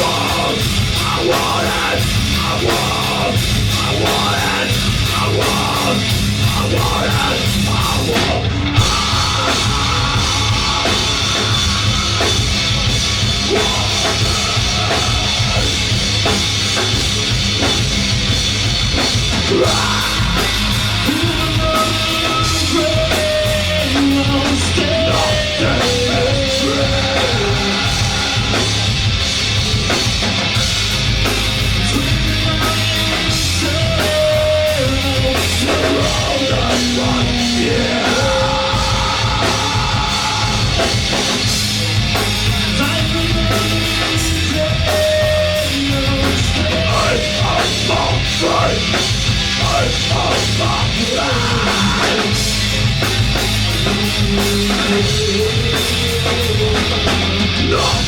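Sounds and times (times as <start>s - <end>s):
live rock band playing: 0.0s - 58.0s
wavering guitar lead line: 0.0s - 58.0s.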